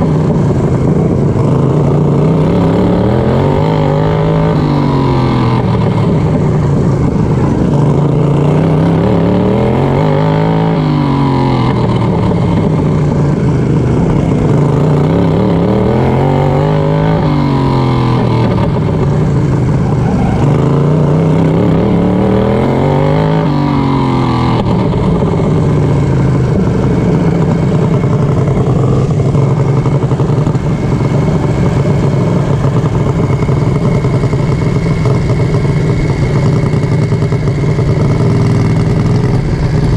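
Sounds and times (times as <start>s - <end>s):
lawnmower engine racing: 0.0s - 39.9s.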